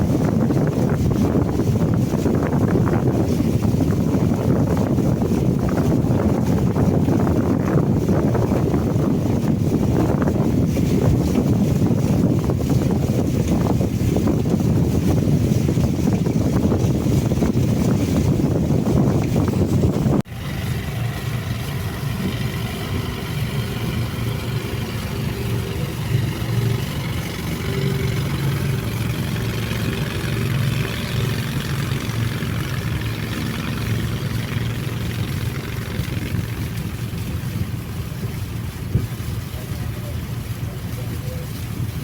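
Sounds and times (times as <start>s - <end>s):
boat engine humming: 0.0s - 42.0s
water wash: 0.0s - 42.0s
wind noise: 0.0s - 42.0s.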